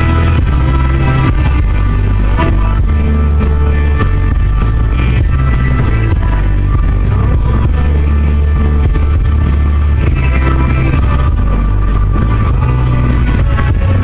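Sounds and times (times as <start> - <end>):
loud rock music: 0.0 - 14.0.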